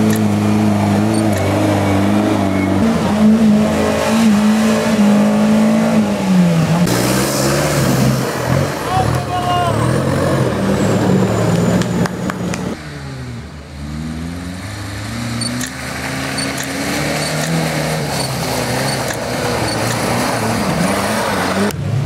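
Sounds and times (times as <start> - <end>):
engine accelerating on dirt track: 0.0 - 22.0
engine working hard in mud: 0.0 - 22.0.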